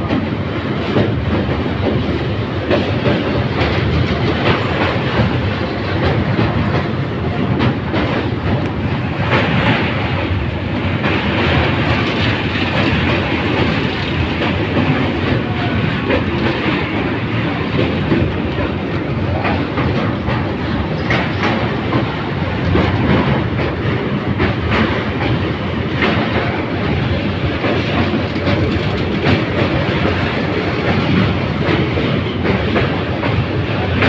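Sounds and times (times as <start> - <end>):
train wheels rumbling and clattering: 0.0 - 34.0.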